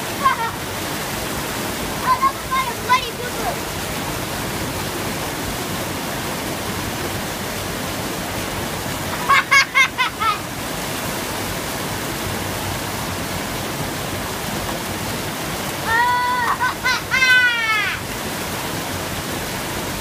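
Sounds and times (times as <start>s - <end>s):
whitewater pouring over weir: 0.0s - 20.0s.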